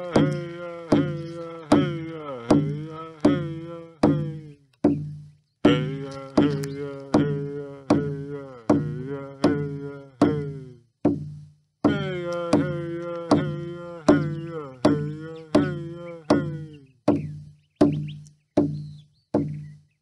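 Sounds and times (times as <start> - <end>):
frame drum beats: 0.0 - 19.8.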